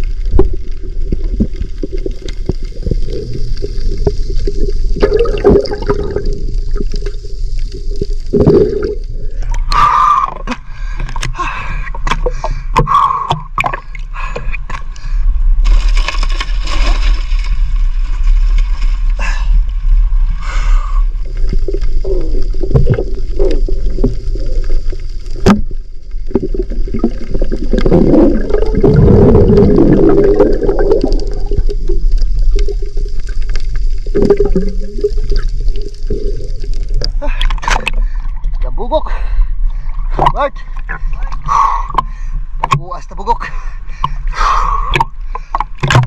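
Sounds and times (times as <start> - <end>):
steady low rumble: 0.0 - 45.5
water gurgling and sloshing: 0.0 - 46.0.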